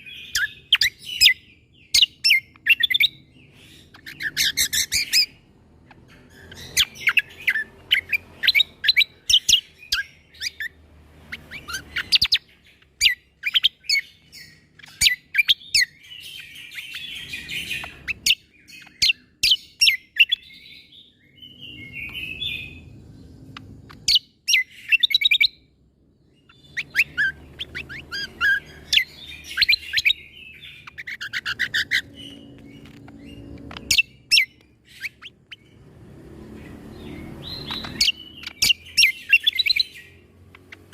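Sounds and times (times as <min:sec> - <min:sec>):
bird singing rapid sharp notes: 0:00.0 - 0:40.9.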